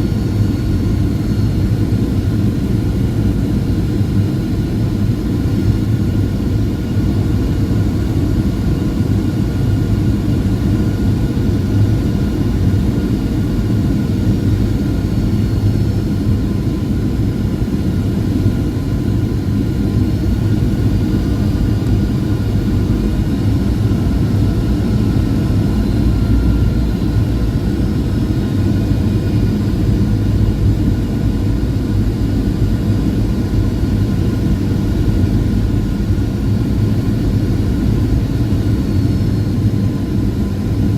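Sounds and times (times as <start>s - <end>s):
airliner engine and airflow rumble: 0.0s - 40.9s.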